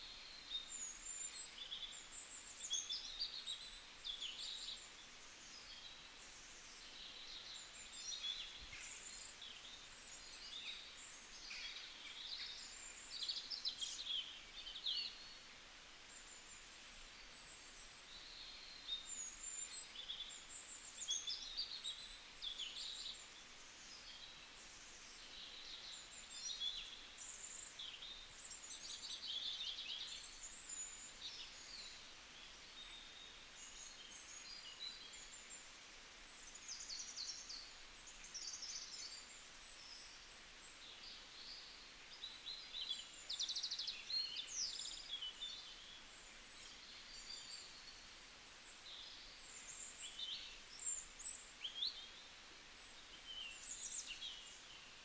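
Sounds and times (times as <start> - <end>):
faint forest ambience hiss: 0.0 - 55.0
songbirds chirping and warbling: 0.0 - 55.0.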